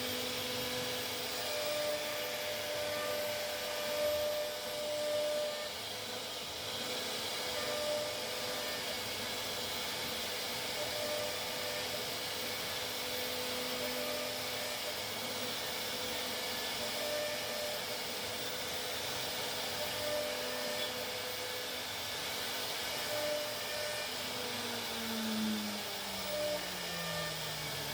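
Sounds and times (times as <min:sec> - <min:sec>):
router whirring hiss: 0:00.0 - 0:27.9.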